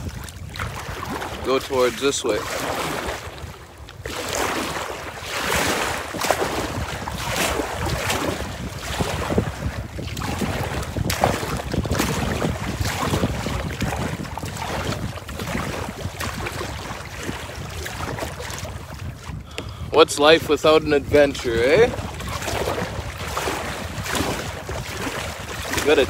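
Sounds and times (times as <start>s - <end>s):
water splashing against kayak: 0.0s - 26.0s
wind buffeting microphone: 0.0s - 26.0s.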